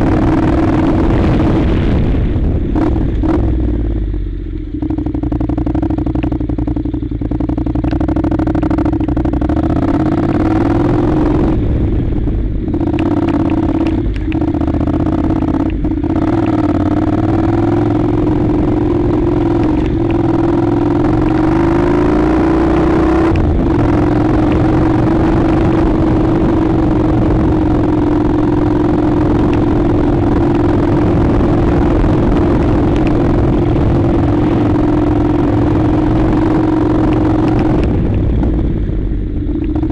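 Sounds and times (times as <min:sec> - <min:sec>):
wind rush: 0:00.0 - 0:06.4, 0:08.1 - 0:39.9
motorcycle engine running: 0:00.0 - 0:39.9.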